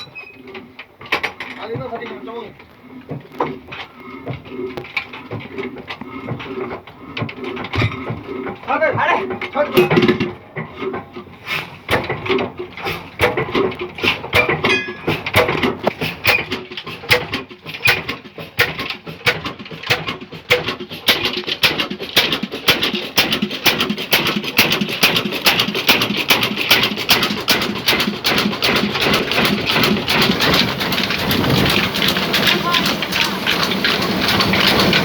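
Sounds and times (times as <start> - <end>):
engine starting and running: 0.0 - 35.0.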